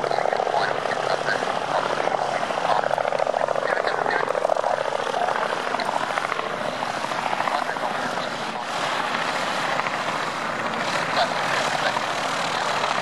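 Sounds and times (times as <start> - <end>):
helicopter engine: 0.0 - 13.0
helicopter rotor beating: 0.0 - 13.0.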